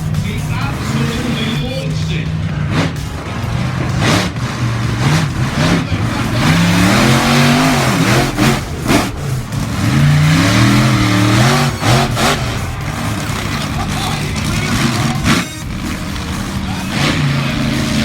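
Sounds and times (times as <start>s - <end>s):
truck engine revving hard: 0.0s - 18.0s.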